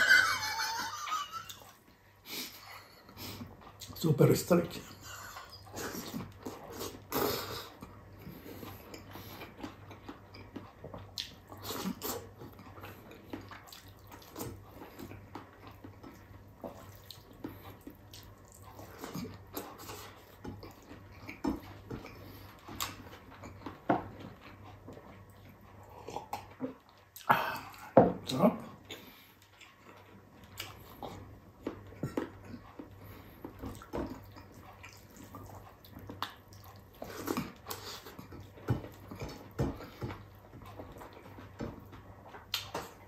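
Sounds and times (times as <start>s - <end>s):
person chewing food: 0.0s - 4.0s, 4.8s - 43.0s.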